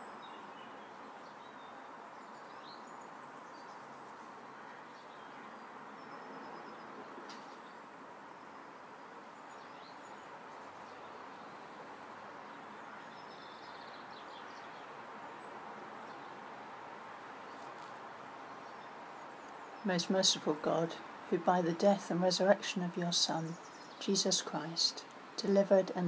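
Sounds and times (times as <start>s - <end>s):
small birds chirping: 0.0s - 16.7s, 17.3s - 26.0s
steady background hiss: 0.0s - 26.0s.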